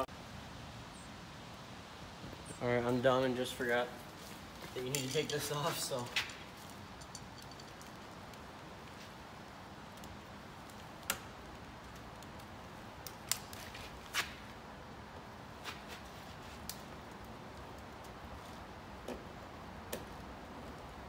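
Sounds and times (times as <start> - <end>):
steady faint hiss: 0.0 - 21.0.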